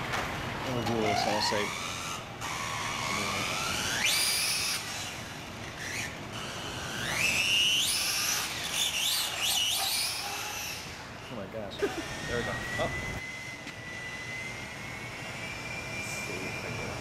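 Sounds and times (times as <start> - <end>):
rc truck motor whining: 0.0 - 17.0.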